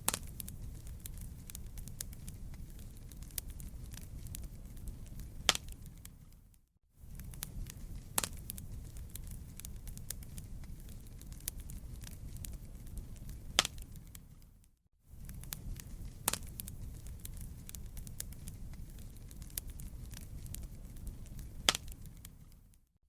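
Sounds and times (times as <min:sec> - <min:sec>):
campfire crackling and popping: 0:00.0 - 0:14.5, 0:15.1 - 0:22.8.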